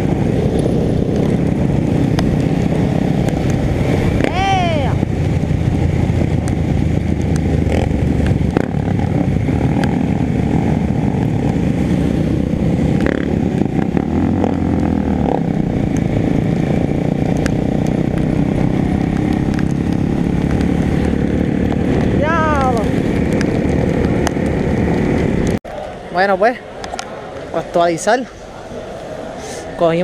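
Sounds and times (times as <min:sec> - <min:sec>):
loud rushing noise: 0:00.0 - 0:25.6
motorcycle engine running: 0:00.0 - 0:25.6.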